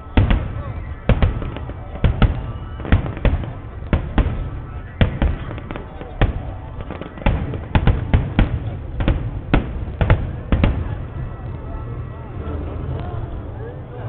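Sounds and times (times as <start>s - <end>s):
fireworks bangs: 0.0s - 12.8s
low rumble of fireworks: 0.0s - 14.0s.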